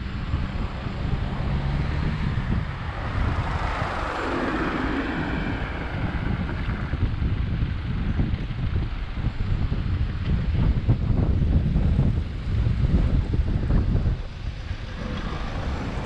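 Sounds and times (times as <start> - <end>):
broad rushing noise: 0.0 - 16.0
wind buffeting microphone: 0.0 - 16.0.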